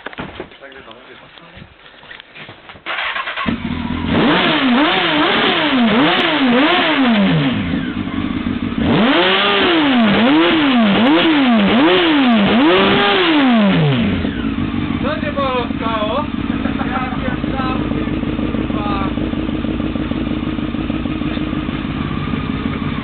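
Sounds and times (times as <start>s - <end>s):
motorcycle engine revving: 2.8s - 23.0s.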